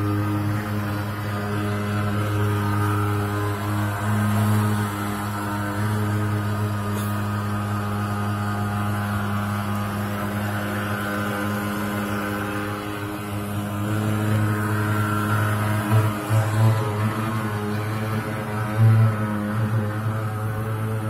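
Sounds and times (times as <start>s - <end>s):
fogging machine engine drone: 0.0s - 21.0s.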